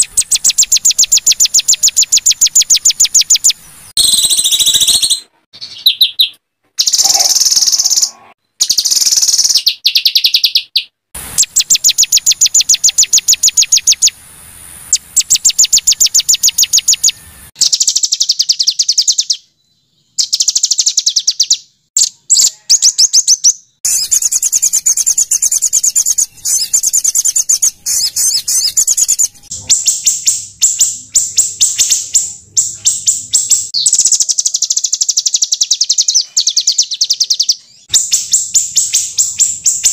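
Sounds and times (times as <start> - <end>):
songbird rapid harsh song: 0.0 - 39.9.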